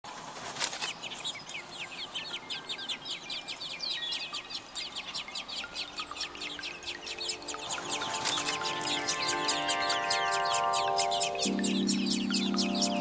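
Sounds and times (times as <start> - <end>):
small birds chirping rapidly: 0.1 - 13.0.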